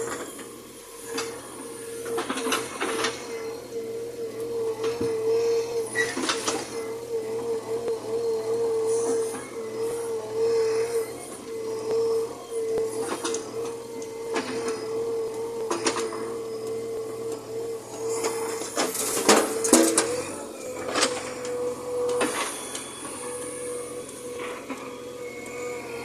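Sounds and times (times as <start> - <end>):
backhoe engine and hydraulic whine: 0.0 - 26.0.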